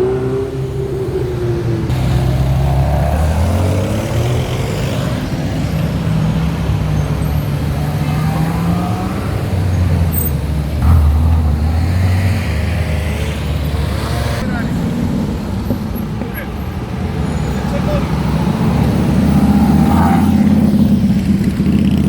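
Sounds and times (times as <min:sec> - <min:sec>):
car engine revving: 0:00.0 - 0:22.0
car engines rumbling: 0:00.0 - 0:22.0.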